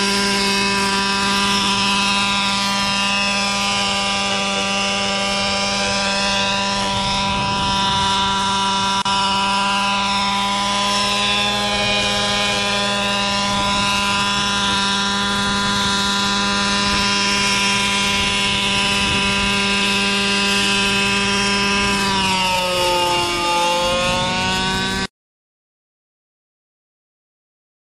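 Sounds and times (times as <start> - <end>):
model helicopter engine running: 0.0 - 25.1.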